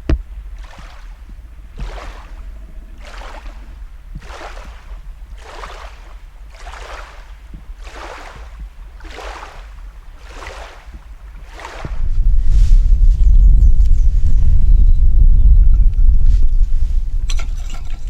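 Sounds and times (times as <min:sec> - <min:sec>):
paddle strokes in water: 0:00.0 - 0:14.6
wind rumble on microphone: 0:00.0 - 0:18.0.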